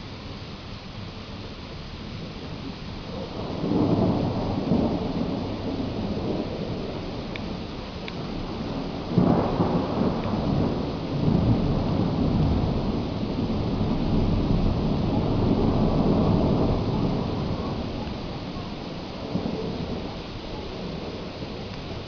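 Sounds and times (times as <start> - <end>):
heavy rain hiss: 0.0 - 22.0
thunder rumbling: 1.4 - 22.0.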